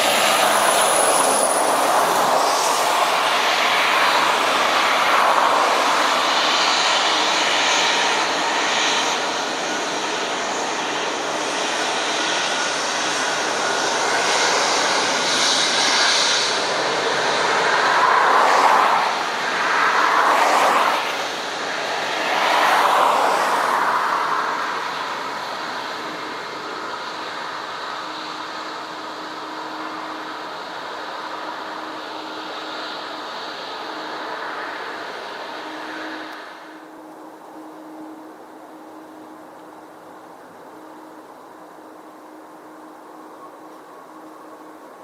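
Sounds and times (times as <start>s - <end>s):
airliner engine rushing overhead: 0.0s - 45.0s.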